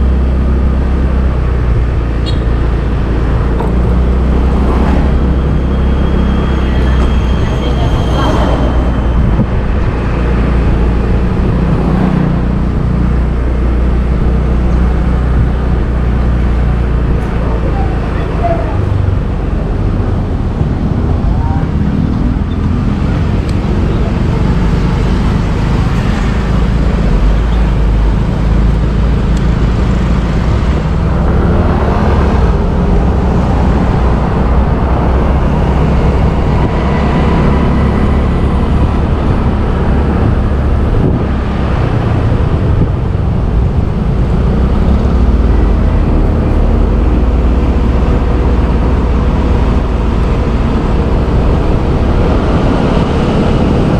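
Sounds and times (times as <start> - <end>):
vehicles passing: 0.0 - 53.9.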